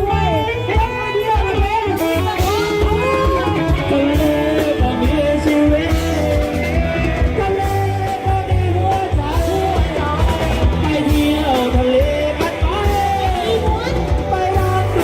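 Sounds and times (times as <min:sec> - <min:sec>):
amplified electric guitar melody: 0:00.0 - 0:15.0
heavy bass and drum beat: 0:00.0 - 0:15.0
person singing: 0:00.0 - 0:15.0.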